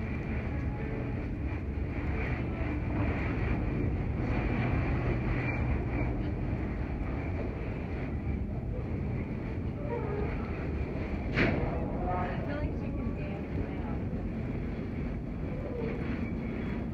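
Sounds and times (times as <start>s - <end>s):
airport terminal background rumble: 0.0s - 16.9s.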